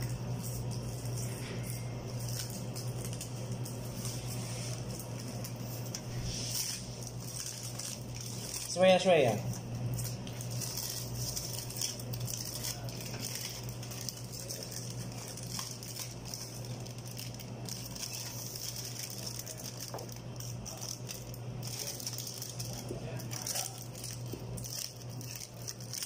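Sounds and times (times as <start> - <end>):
aluminium foil crinkling: 0.0 - 26.0
steady low hum: 0.0 - 26.0.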